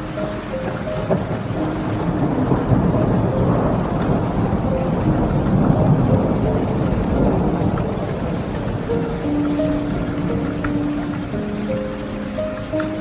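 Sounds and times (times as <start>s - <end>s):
rolling thunder: 0.0s - 11.7s
rain falling: 0.0s - 13.0s.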